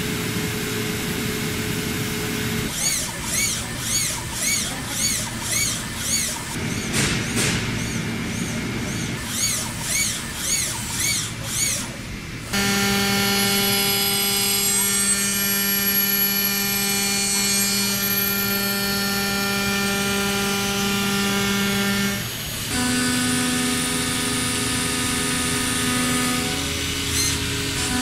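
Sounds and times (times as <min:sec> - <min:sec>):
milling machine whine: 0:00.0 - 0:28.0
machine squeals: 0:02.7 - 0:23.3, 0:24.6 - 0:28.0.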